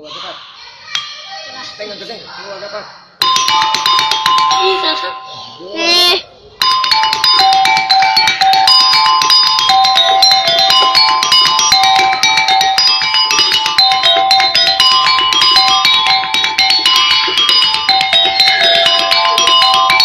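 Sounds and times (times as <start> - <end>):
bell-like melody: 3.2 - 20.0.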